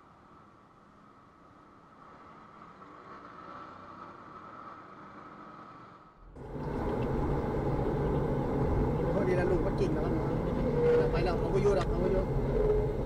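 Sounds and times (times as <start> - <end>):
car engine and road noise inside: 0.0 - 13.0
faint street traffic: 0.0 - 13.0
motor scooters passing: 1.9 - 13.0.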